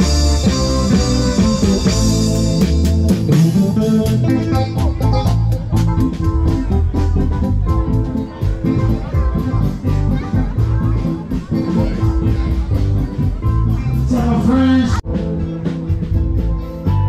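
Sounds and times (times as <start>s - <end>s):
plucked guitar and bass music: 0.0s - 17.0s.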